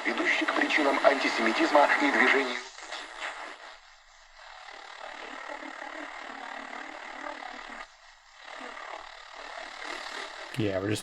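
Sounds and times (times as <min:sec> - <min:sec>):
faint distant radio station buzzing: 0:00.0 - 0:11.0
radio static and hiss: 0:00.0 - 0:11.0.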